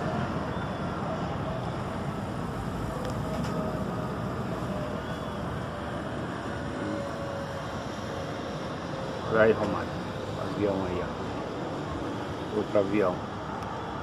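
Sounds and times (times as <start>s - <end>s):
jet airliner rumble overhead: 0.0s - 14.0s.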